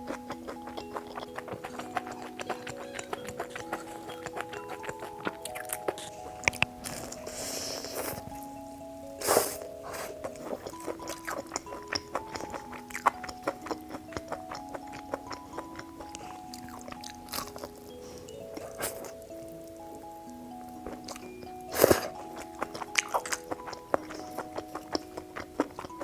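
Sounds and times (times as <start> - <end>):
person chewing crunchy food: 0.0 - 26.0
soft background music: 0.0 - 26.0.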